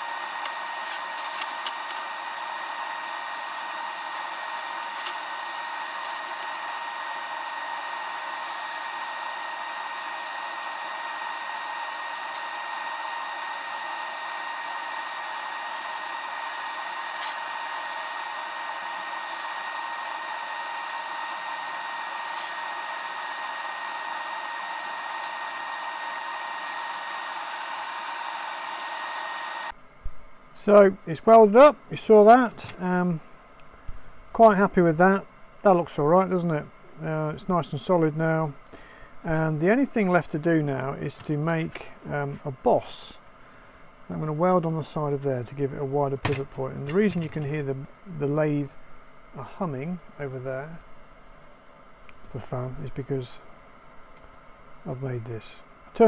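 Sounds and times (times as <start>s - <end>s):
fan whirring hum: 0.0s - 56.0s.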